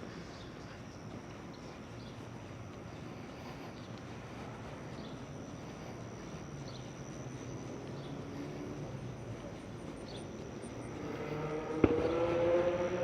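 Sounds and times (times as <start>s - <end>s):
distant traffic rumble: 0.0s - 13.0s
engine hum: 0.0s - 13.0s
high-pitched insect drone: 0.0s - 13.0s.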